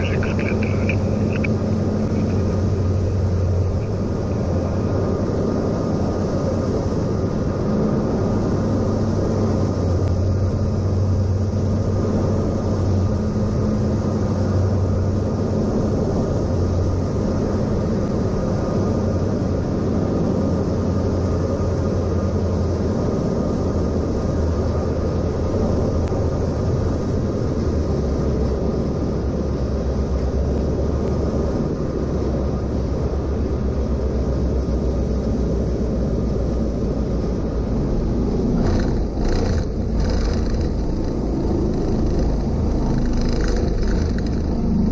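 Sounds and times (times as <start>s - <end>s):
plane engine drone: 0.0s - 44.9s.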